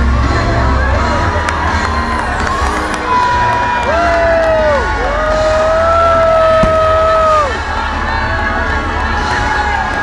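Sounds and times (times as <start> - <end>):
crowd din: 0.0 - 10.0
show music with singing voices: 0.0 - 10.0.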